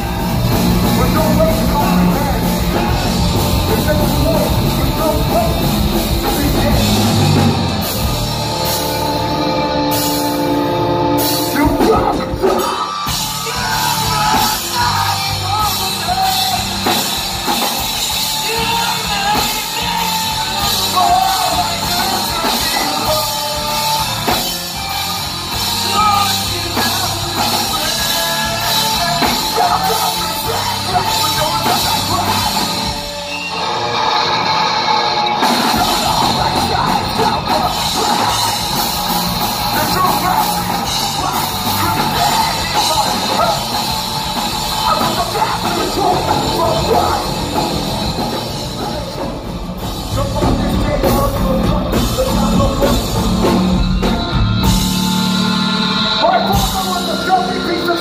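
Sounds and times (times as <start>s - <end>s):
person singing and yelling: 0.0s - 8.0s, 11.4s - 33.1s, 35.4s - 54.9s
bass guitar: 0.0s - 58.0s
distorted electric guitars: 0.0s - 58.0s
drum kit: 0.0s - 58.0s.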